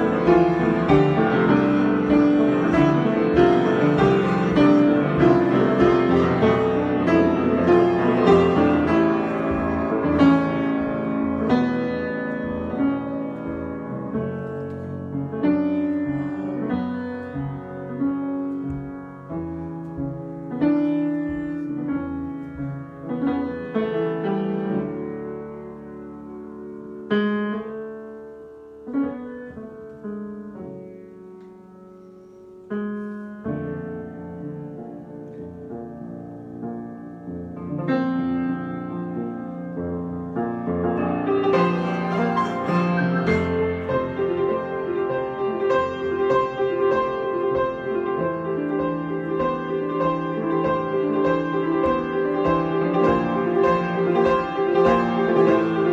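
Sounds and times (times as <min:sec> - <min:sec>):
solo piano improvisation: 0:00.0 - 0:55.9.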